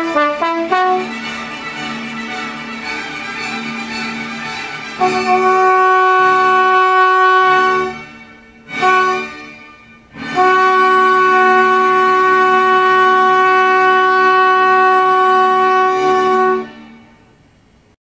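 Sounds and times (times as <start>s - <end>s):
trombone holding a long note: 0.0s - 2.8s, 4.9s - 17.2s.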